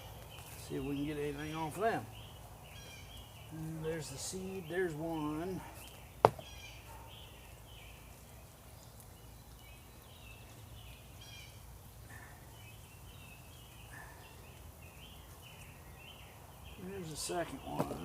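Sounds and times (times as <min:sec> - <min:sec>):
faint birds chirping: 0:00.0 - 0:18.0
low outdoor background noise: 0:00.0 - 0:18.0.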